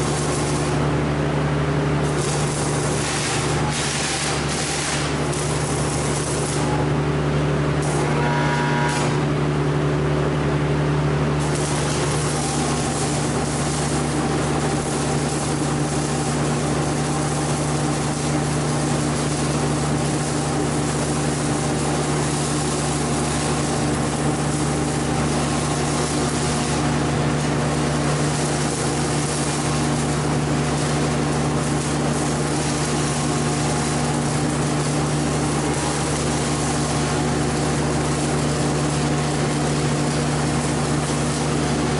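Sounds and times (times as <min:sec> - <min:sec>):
welding arc crackling and hissing: 0:00.0 - 0:09.6, 0:11.4 - 0:41.9
low machine hum: 0:00.0 - 0:41.9.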